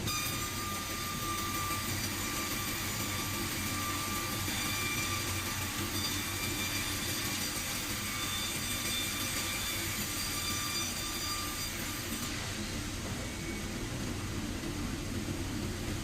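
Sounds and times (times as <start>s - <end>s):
sawmill machinery droning: 0.0s - 16.0s.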